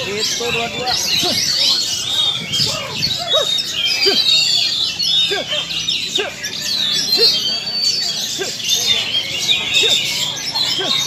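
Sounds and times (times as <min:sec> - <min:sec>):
many songbirds singing: 0:00.0 - 0:11.0
people calling out: 0:00.0 - 0:11.0.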